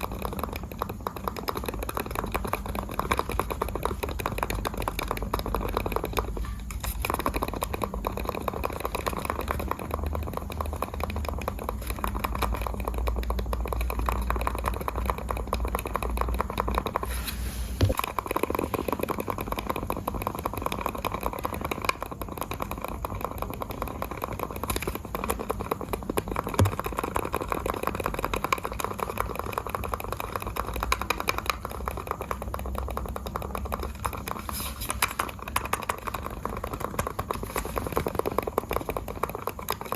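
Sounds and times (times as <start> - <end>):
mouse buttons clicking rapidly: 0.0 - 17.1, 17.8 - 39.9.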